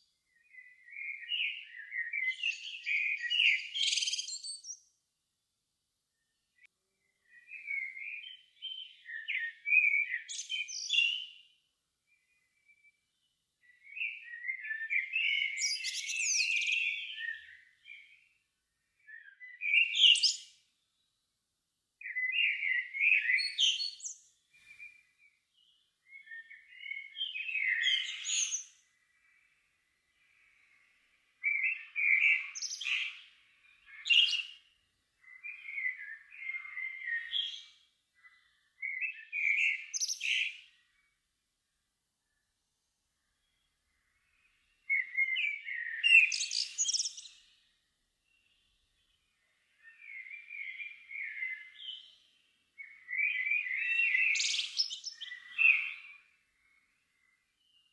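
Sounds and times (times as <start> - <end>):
songbird singing: 0.0 - 5.0, 6.1 - 21.3, 22.0 - 57.9.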